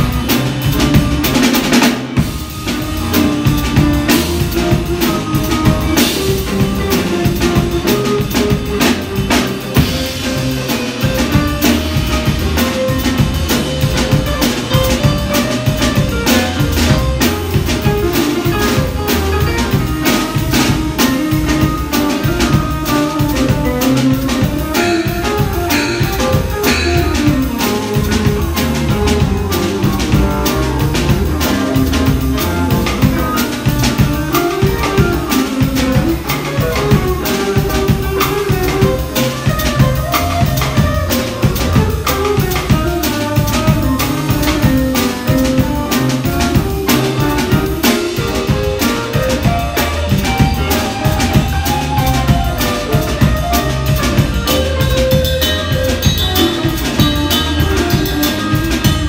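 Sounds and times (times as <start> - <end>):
drums and cymbals: 0.0 - 59.0
electric guitar melody: 0.0 - 59.0
walking double bass line: 0.0 - 59.0.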